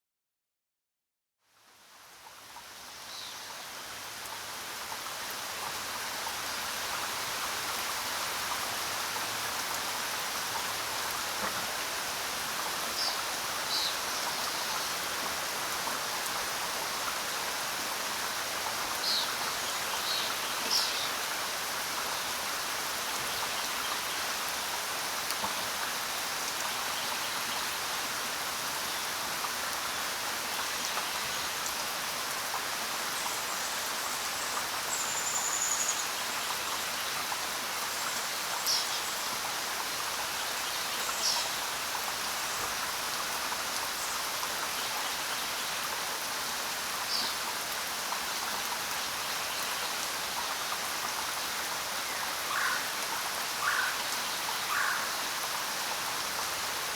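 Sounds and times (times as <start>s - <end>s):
rain falling on ground: 1.4s - 56.9s.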